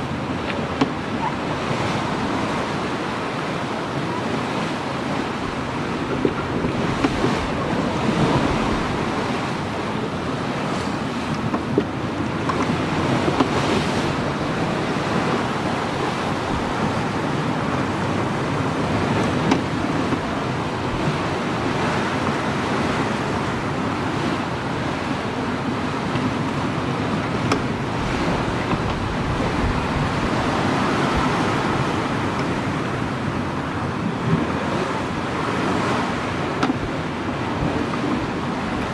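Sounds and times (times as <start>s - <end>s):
water splashing along a hull: 0.0s - 38.9s
wind on microphone: 0.0s - 38.9s.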